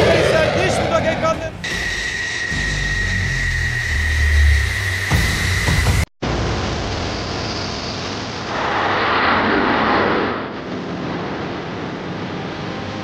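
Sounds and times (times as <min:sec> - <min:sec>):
jet engine rushing: 0:00.0 - 0:13.0.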